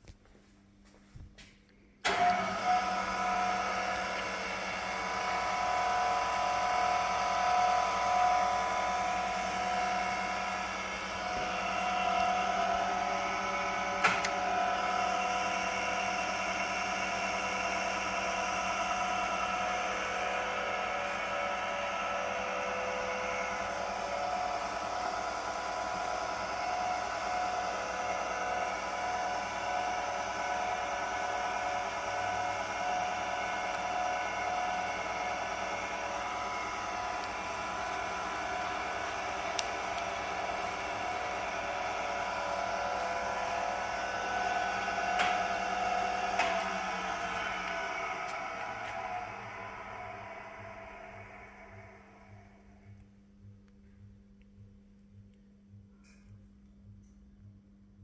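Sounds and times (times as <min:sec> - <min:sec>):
grinder motor whine: 0:02.1 - 0:52.6.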